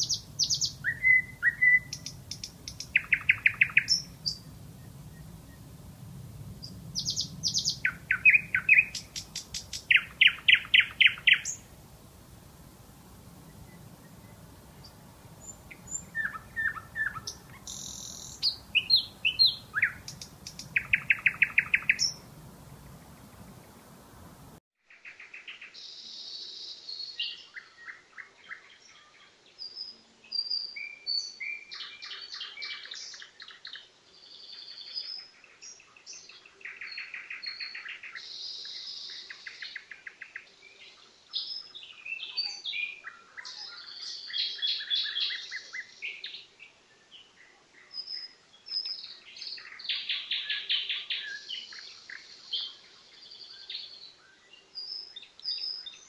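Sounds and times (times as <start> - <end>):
nightingale singing: 0.0 - 24.6, 29.6 - 56.0.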